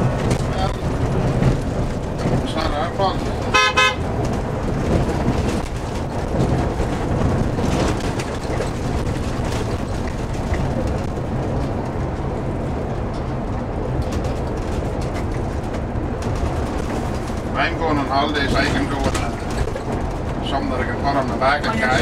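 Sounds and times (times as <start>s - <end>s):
engine and road drone: 0.0s - 22.0s.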